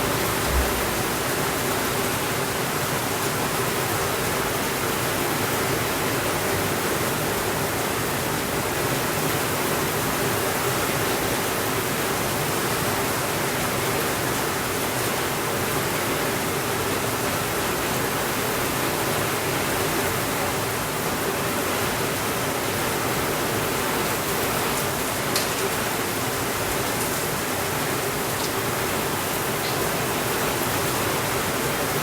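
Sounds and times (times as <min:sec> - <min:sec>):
steady rainfall: 0:00.0 - 0:32.0.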